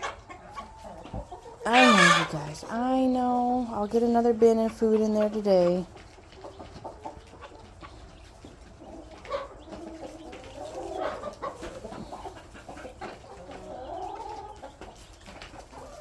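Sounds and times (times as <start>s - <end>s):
hens clucking: 0.0s - 16.0s.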